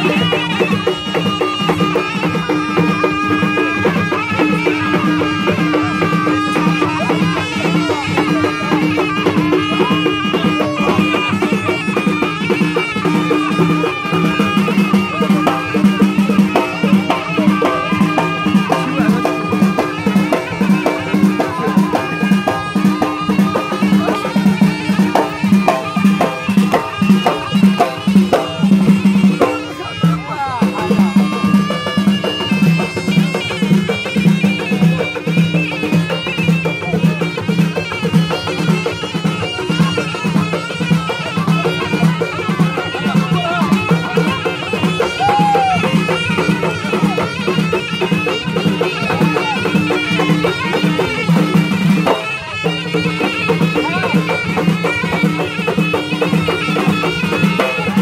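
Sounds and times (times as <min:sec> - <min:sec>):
frame drums beating: 0:00.0 - 0:58.0
reedy wind instrument melody: 0:00.0 - 0:58.0.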